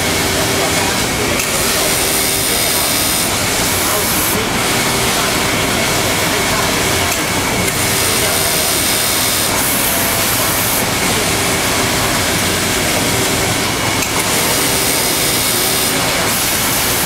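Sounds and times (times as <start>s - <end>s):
sewing machine hiss and hum: 0.0s - 17.0s.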